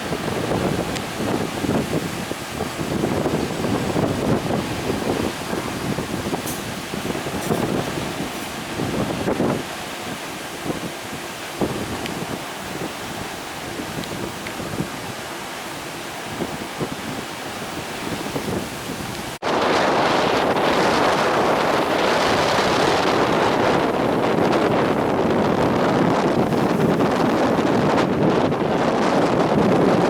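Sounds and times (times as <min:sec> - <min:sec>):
storm surf on the sea: 0:00.0 - 0:30.0
wind buffeting microphone: 0:00.0 - 0:30.0.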